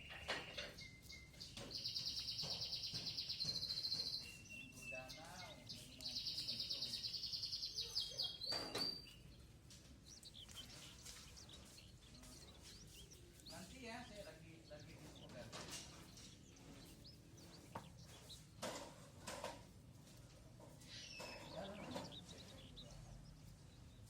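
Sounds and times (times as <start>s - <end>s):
sparrow chirping: 0.0s - 24.0s.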